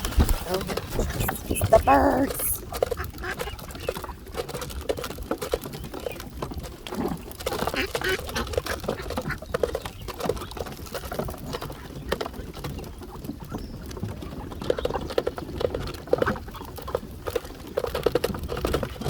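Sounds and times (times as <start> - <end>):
ducks pecking and dabbling: 0.0 - 19.0.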